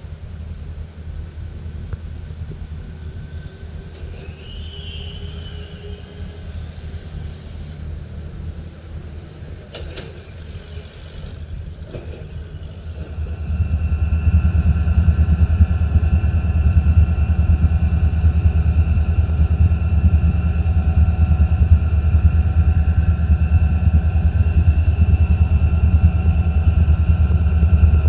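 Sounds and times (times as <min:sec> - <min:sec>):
engine rumble: 0:00.0 - 0:28.0.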